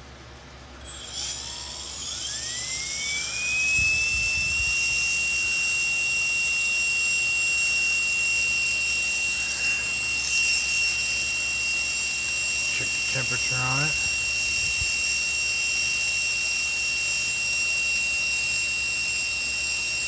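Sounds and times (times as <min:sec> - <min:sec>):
electric motor high whine: 0:00.7 - 0:20.0.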